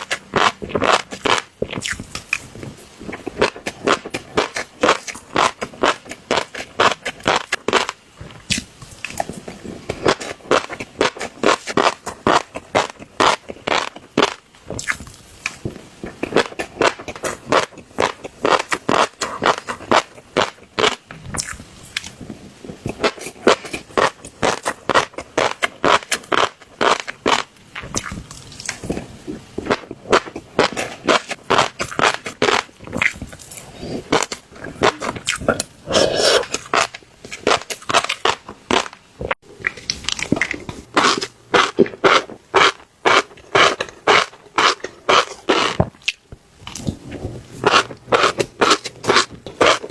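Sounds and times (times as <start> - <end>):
fish roe popping when chewed: 0.0 - 22.2, 22.8 - 47.0.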